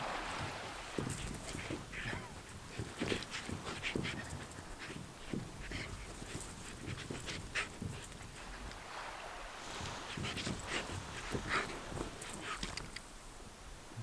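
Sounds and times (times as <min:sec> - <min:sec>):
dog scuffing and clicking: 0:01.0 - 0:08.8, 0:09.7 - 0:13.2.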